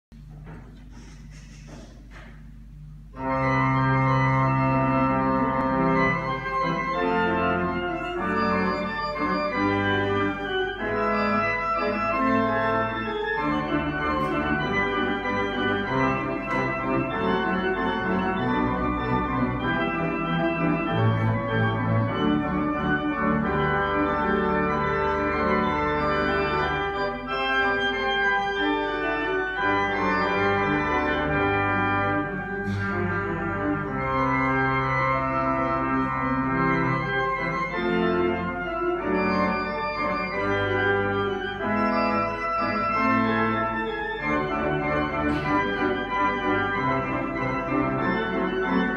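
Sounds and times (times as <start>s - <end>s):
pipe organ chords: 1.4s - 48.9s.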